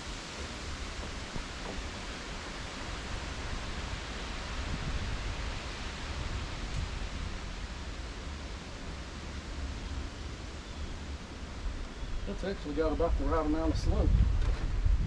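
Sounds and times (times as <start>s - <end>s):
even hiss: 0.0s - 14.3s
low fluttering rumble: 0.0s - 15.0s.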